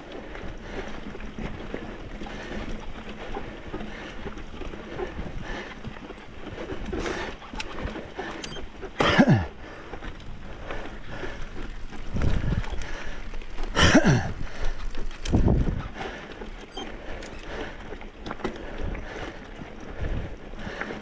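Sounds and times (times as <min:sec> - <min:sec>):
bike rattling over rocks: 0:00.0 - 0:21.0.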